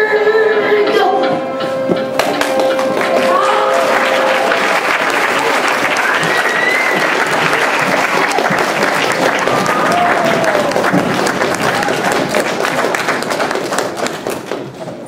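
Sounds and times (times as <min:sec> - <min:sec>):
audience applauding: 0:02.2 - 0:14.8.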